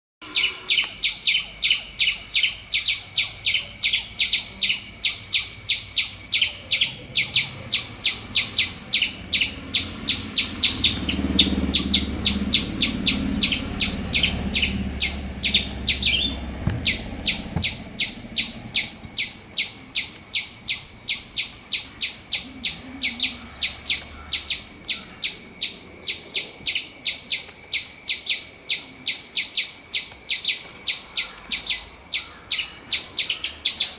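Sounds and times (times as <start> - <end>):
squirrel chirping: 0.2 - 33.9.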